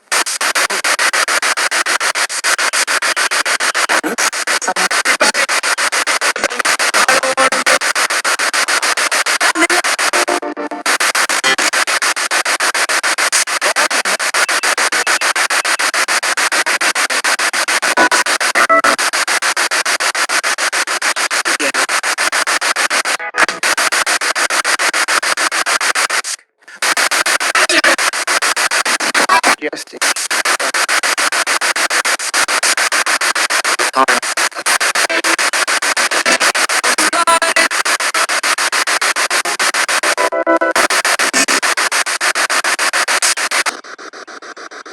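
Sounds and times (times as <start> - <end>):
broadcast tone snatches: 0.0 - 44.9
radio static in short bursts: 0.0 - 44.9.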